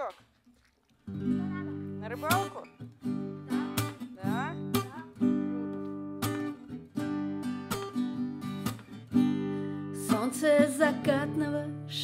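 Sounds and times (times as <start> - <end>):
acoustic guitar strumming chords: 1.2 - 12.0.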